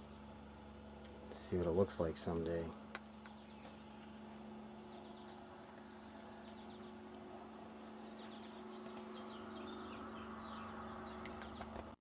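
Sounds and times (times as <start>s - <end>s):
steady low hum: 0.0s - 12.0s
small birds chirping: 2.3s - 12.0s.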